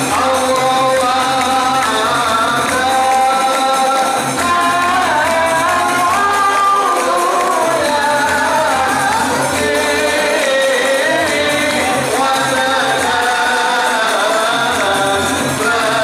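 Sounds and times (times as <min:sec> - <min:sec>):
frame drums beating: 0:00.0 - 0:16.0
man singing: 0:00.0 - 0:16.0.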